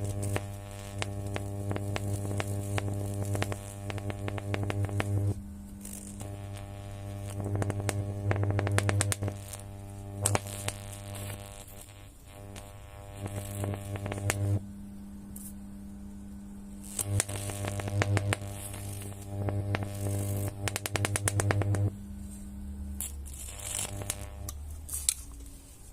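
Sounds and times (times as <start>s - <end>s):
crackling clicks and snaps: 0.0s - 14.6s, 16.8s - 22.0s, 23.0s - 25.6s
microwave oven humming: 0.0s - 24.6s.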